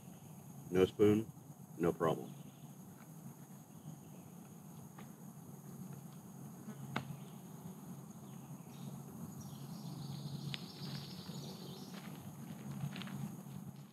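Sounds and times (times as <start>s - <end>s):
insects trilling: 0.0s - 13.9s
insect buzzing close: 2.4s - 13.9s.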